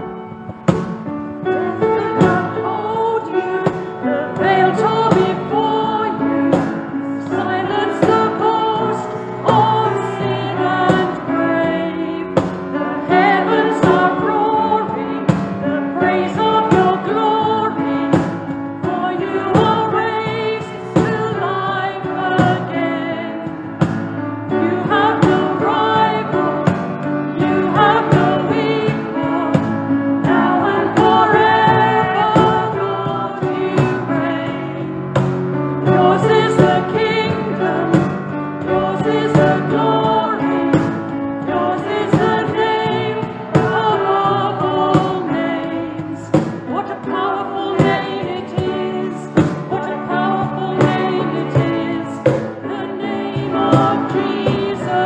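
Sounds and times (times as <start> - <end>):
voices singing: 0.0 - 55.0.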